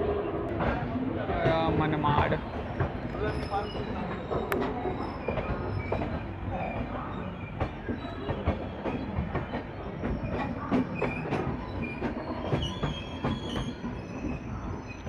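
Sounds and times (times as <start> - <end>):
train coach rumbling: 0.0 - 15.0
high wheel squeals: 2.7 - 15.0.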